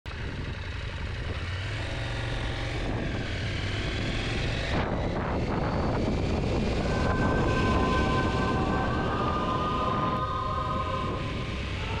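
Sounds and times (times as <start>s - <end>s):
motorcycle engine humming: 0.1s - 12.0s.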